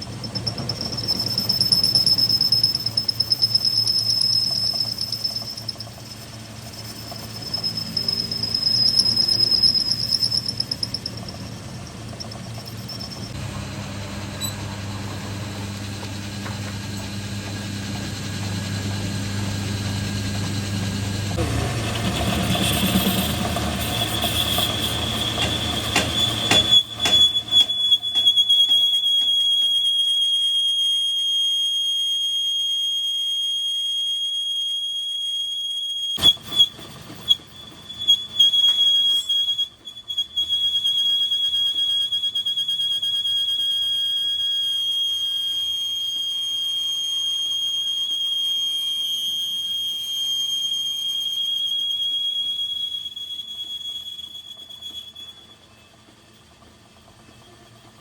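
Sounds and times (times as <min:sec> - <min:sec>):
machine high-pitched whine: 0:00.0 - 0:58.0.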